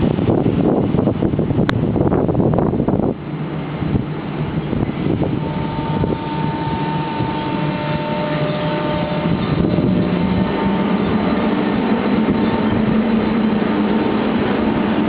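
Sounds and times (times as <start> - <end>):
electric locomotive whine: 0.0 - 15.0
train rumble: 0.0 - 15.0
wind on microphone: 0.0 - 15.0.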